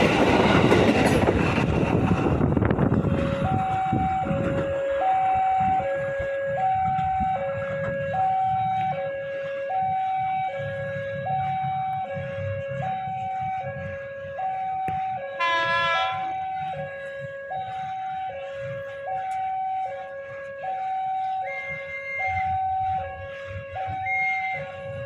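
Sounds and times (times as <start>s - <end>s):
two-tone siren: 2.5s - 25.0s.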